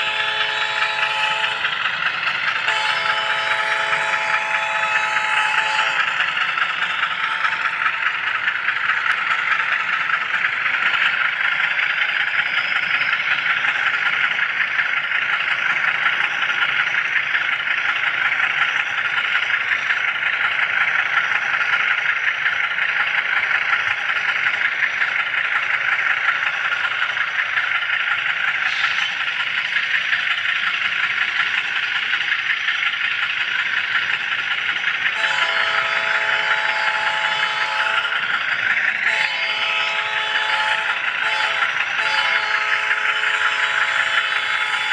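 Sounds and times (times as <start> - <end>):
small wheels rattling on rails: 0.0 - 44.9.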